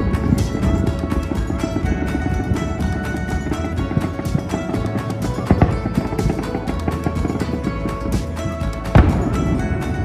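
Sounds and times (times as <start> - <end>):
music playing: 0.0 - 10.0.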